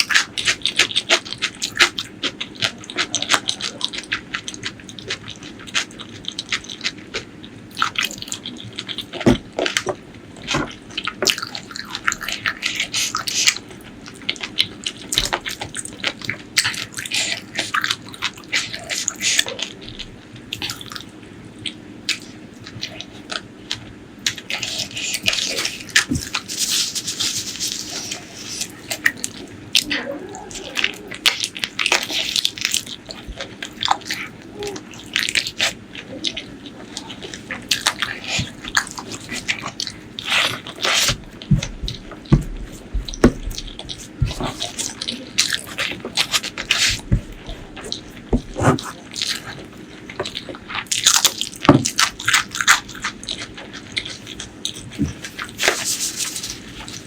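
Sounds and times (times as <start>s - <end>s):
wet chewing and lip smacking: 0.0s - 57.0s.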